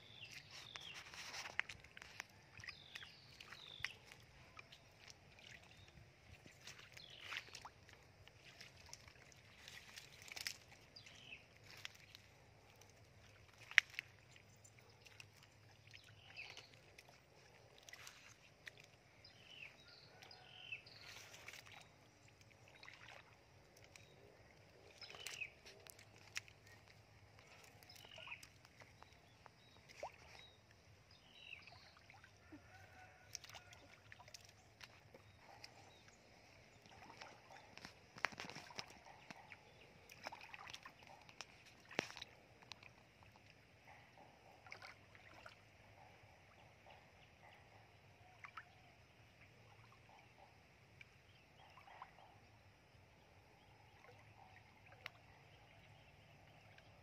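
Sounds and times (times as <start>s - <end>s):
feet wading through shallow water: 0.0s - 57.0s.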